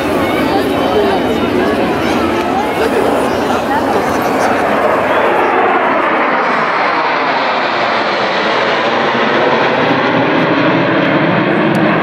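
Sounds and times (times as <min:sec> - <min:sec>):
fighter jets flying overhead: 0:00.0 - 0:12.0.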